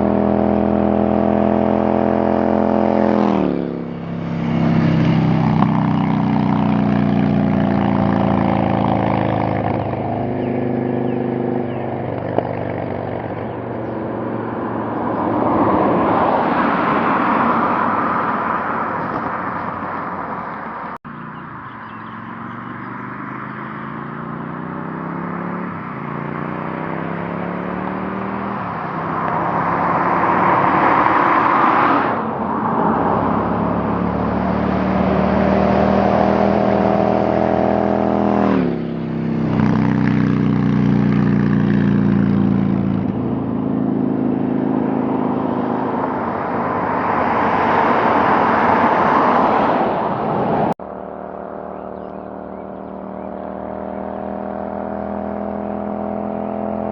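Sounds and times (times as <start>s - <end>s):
motorcycle engine accelerating: 0.0s - 20.4s, 21.0s - 48.8s, 50.7s - 56.9s.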